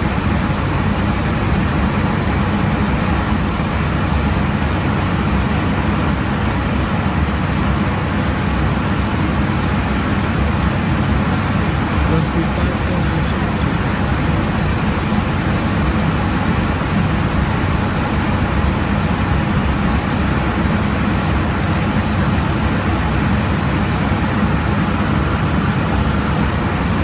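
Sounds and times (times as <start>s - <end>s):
cockpit airflow and engine noise: 0.0s - 27.0s.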